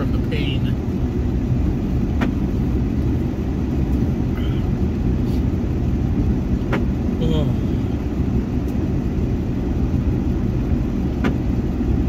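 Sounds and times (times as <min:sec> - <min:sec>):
truck engine rumble and road noise: 0:00.0 - 0:12.0.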